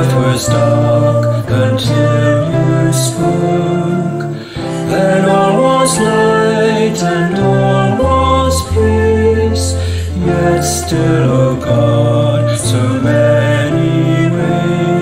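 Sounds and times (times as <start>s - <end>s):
hymn music with sustained chords: 0.0s - 15.0s.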